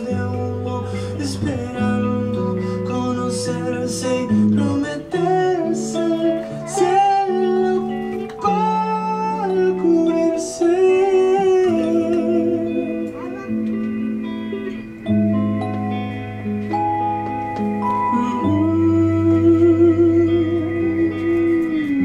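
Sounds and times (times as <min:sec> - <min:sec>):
man singing: 0:00.0 - 0:13.9, 0:17.9 - 0:22.0
deep bass notes: 0:00.0 - 0:22.0
electric guitar: 0:00.0 - 0:22.0
keyboards: 0:00.0 - 0:22.0.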